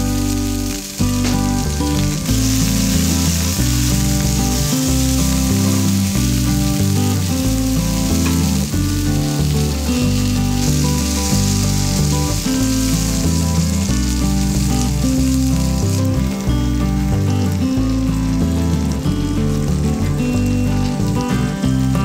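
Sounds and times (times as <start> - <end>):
background music with bass line: 0.0 - 22.0
food sizzling in a frying pan: 0.0 - 22.0.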